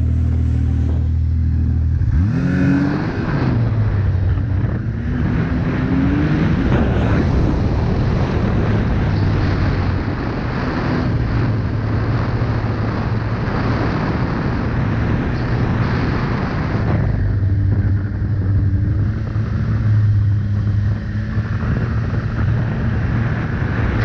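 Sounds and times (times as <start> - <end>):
snowmobile engine running: 0.0 - 24.0
wind on microphone: 0.0 - 24.0.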